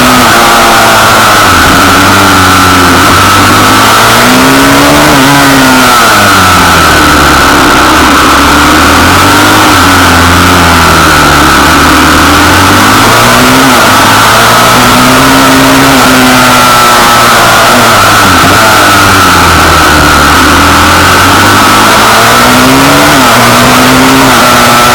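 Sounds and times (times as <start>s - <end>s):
pit bike engine revving: 0.0s - 24.9s.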